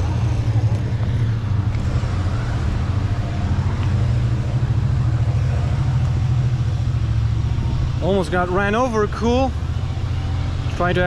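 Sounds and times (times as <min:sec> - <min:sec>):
vehicle engines humming: 0:00.0 - 0:11.0.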